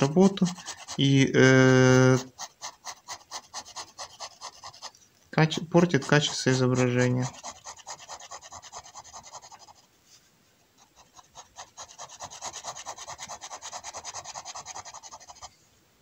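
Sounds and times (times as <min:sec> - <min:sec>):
pen nib scratching on paper: 0:00.0 - 0:09.9, 0:10.8 - 0:15.5.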